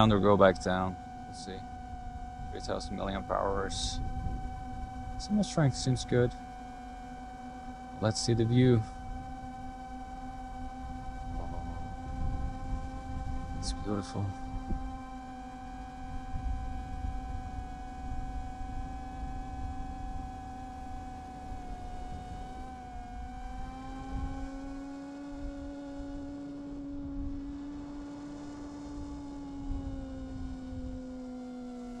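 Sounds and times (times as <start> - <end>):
wind rumble on microphone: 0.0 - 6.4, 7.7 - 31.2
drone propellers whining: 0.0 - 32.0.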